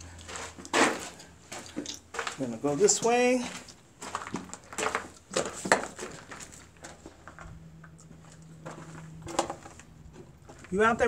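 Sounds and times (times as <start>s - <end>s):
footsteps crunching on gravel: 0.2s - 11.0s.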